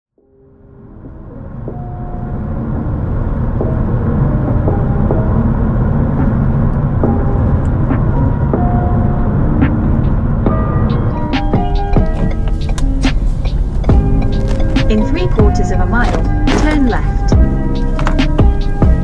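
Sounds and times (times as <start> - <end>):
car road and engine rumble: 0.2 - 19.0
faint held music notes: 0.9 - 19.0.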